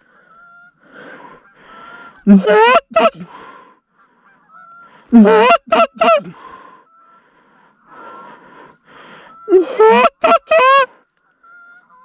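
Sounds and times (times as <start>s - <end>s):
geese honking: 0.0s - 8.3s, 9.0s - 12.0s
distant geese honking: 0.0s - 12.0s.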